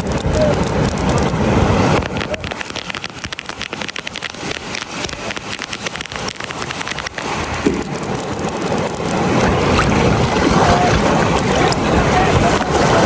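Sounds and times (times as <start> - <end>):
surf washing on a beach: 0.0 - 13.0
wind on microphone: 0.0 - 13.0.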